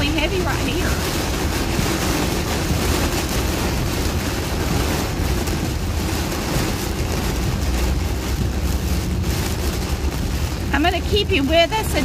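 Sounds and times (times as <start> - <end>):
heavy rain on car: 0.0 - 12.0
tyre and wind rumble: 0.0 - 12.0.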